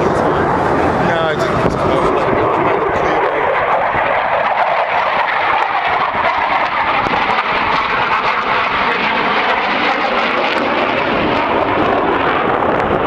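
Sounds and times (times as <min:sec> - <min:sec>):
fighter jet flying overhead: 0:00.0 - 0:13.0.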